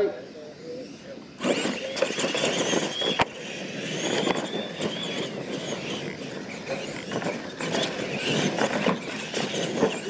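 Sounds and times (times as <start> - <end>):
toy truck motor whine: 0.6 - 10.0
tyres on dirt: 0.8 - 10.0.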